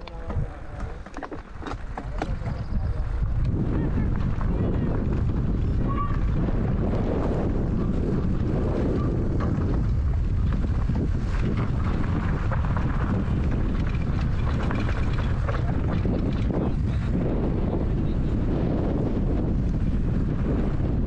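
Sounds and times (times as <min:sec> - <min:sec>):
wind buffeting microphone: 0:00.0 - 0:21.0
motorcycle engine running: 0:01.1 - 0:21.0.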